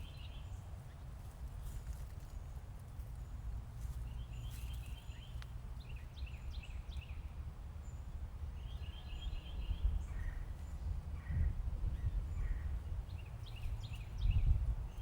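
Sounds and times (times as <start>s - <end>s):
songbird chirping: 0.0s - 0.9s, 1.6s - 15.0s.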